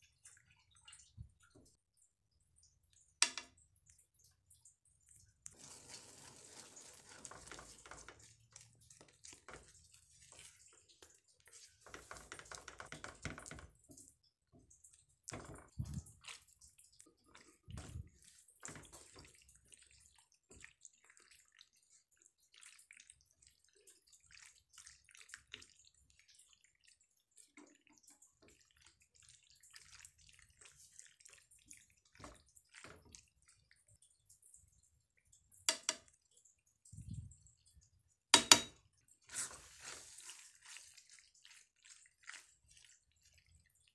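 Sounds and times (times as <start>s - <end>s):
spatula stirring thick sauce: 0.1s - 43.9s.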